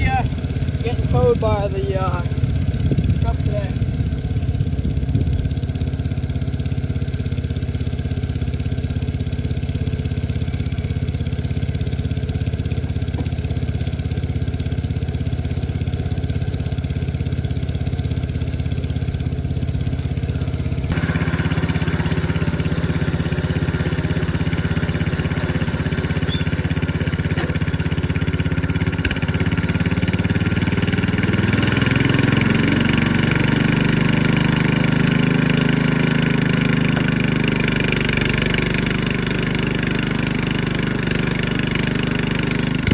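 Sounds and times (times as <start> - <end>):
tractor engine running and revving: 0.0 - 42.9.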